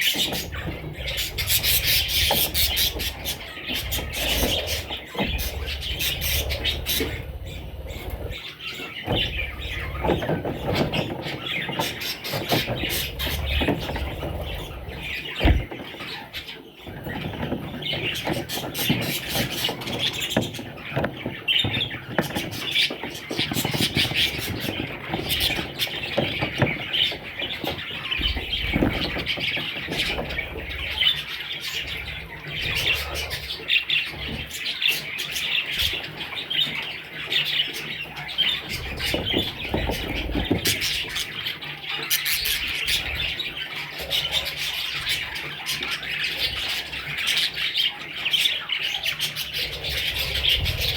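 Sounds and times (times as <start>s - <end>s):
budgerigars chattering and chirping: 0.0s - 50.9s.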